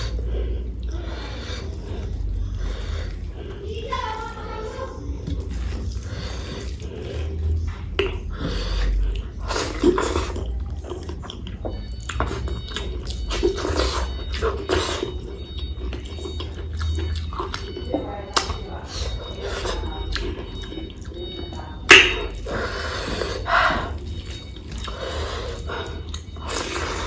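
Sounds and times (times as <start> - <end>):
wet chewing mouth sounds: 0.0 - 27.0.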